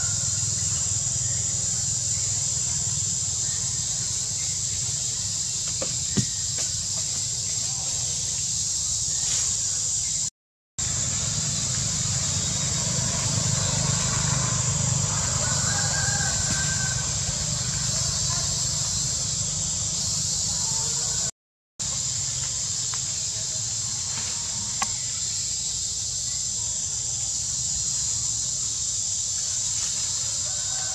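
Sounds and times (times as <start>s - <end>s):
high-pitched insect drone: 0.0s - 30.9s.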